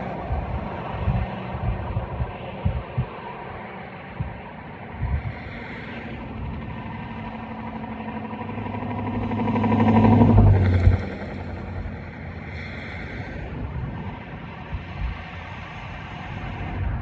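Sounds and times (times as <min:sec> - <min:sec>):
vehicle passing close by: 0:00.0 - 0:17.0.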